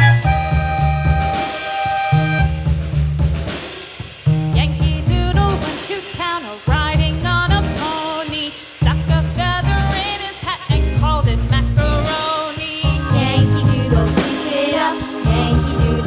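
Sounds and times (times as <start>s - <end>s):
upbeat children's song: 0.0s - 2.6s, 3.5s - 16.0s.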